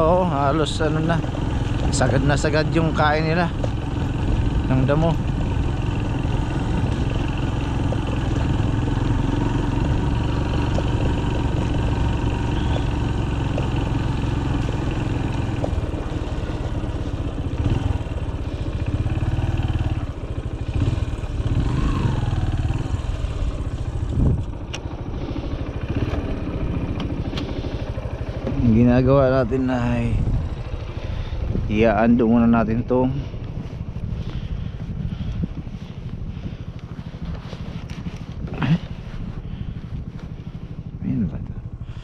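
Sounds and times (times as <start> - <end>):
motorbike engine running: 0.0 - 42.0.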